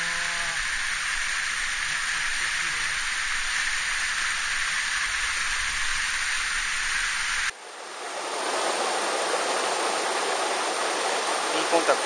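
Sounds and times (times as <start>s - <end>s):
rushing stream water: 0.0s - 12.0s.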